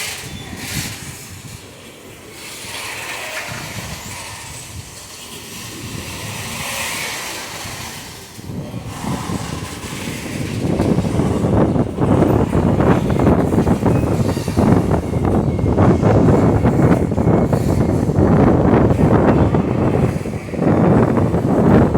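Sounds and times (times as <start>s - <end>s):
freight train rumbling: 0.0s - 21.9s.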